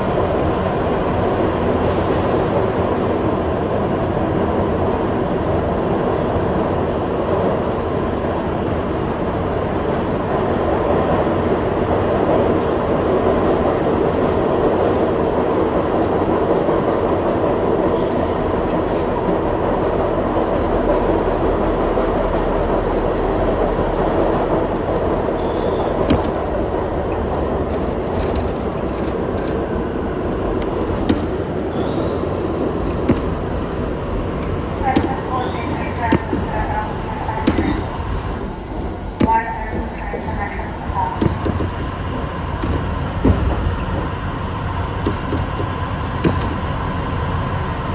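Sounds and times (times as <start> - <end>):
subway train wheels rumbling: 0.0 - 47.9.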